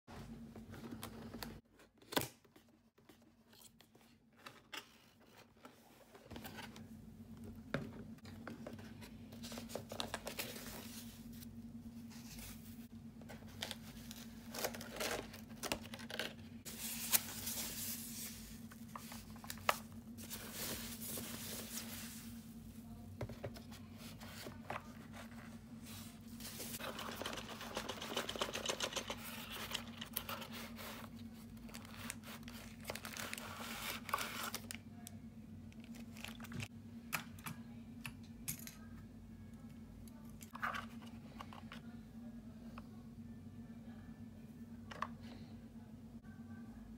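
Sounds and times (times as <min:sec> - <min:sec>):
steady low hum: 0:02.8 - 0:46.9.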